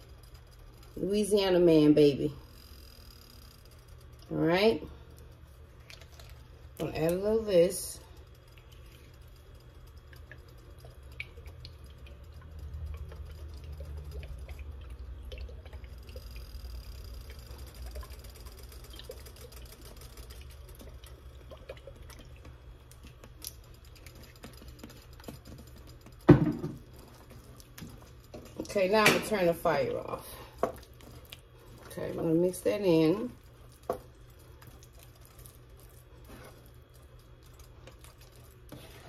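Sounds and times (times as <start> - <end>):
low steady hum: 0.0 - 39.0
faint drips: 3.6 - 39.0.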